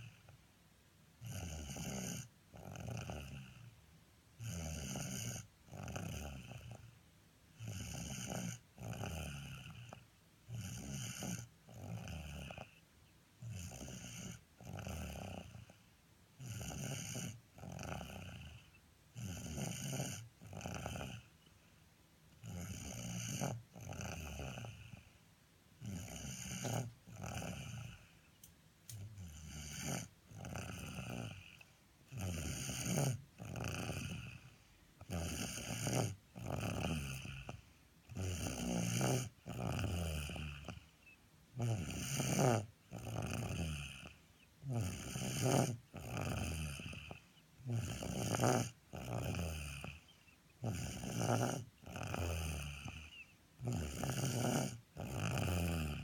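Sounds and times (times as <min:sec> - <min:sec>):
person snoring: 0:01.2 - 0:03.7, 0:04.4 - 0:06.9, 0:07.6 - 0:12.8, 0:13.4 - 0:21.3, 0:22.4 - 0:25.1, 0:25.8 - 0:28.2, 0:28.9 - 0:56.0.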